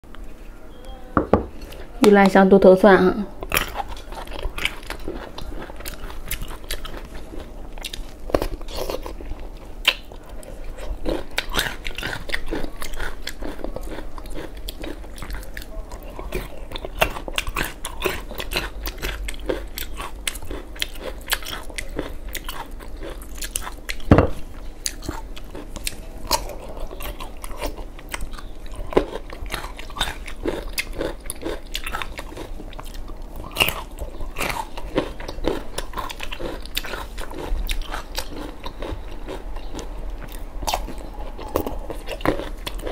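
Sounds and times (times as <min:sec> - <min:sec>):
chewing crunchy garlic: 0:03.3 - 0:42.9.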